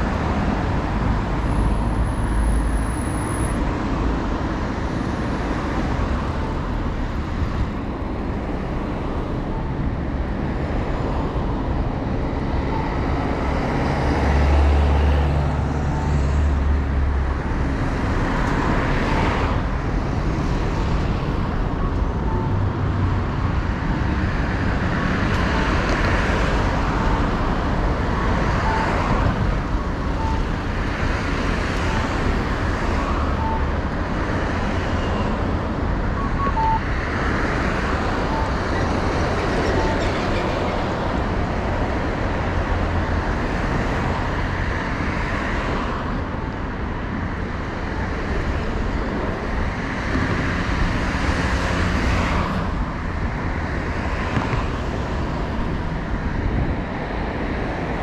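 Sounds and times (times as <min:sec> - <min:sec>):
road traffic passing: 0:00.0 - 0:58.0.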